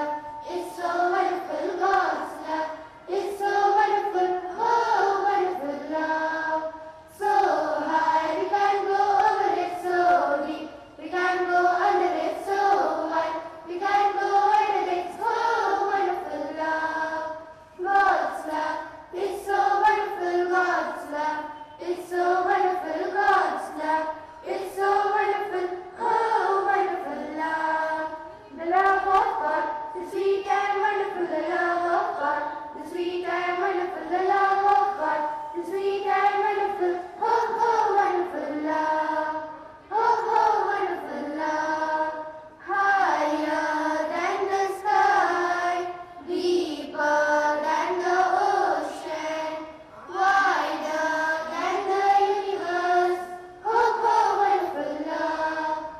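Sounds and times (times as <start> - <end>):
children singing in unison: 0.0 - 55.9.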